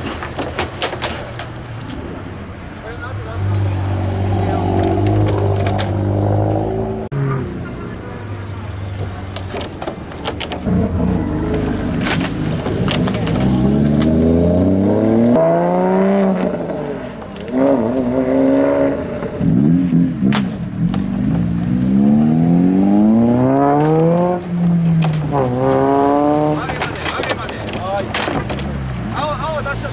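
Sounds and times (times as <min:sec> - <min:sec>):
car engines revving: 0:00.0 - 0:29.9.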